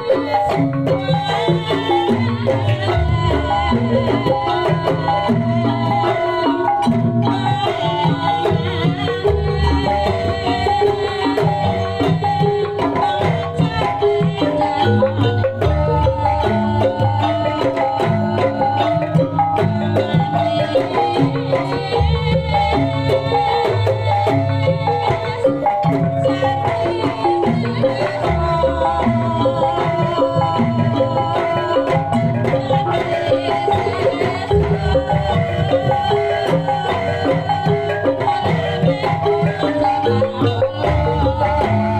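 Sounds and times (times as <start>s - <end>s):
hand drums: 0.0s - 41.9s
pitched metal percussion: 0.0s - 41.9s.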